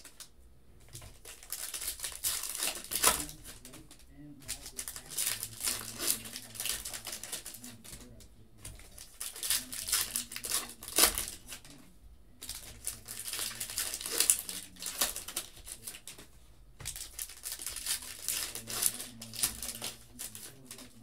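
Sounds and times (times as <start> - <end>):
foil wrappers torn and crinkled: 1.2 - 3.9, 4.5 - 8.0, 8.8 - 11.8, 12.4 - 16.2, 16.9 - 21.0.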